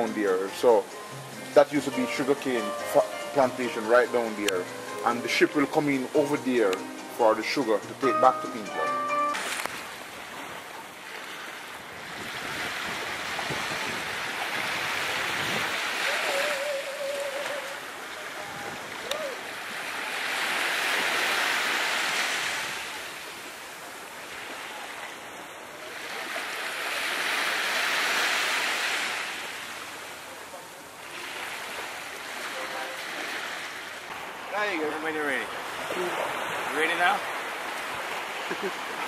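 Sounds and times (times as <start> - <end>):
waves breaking on shore: 0.0 - 39.0.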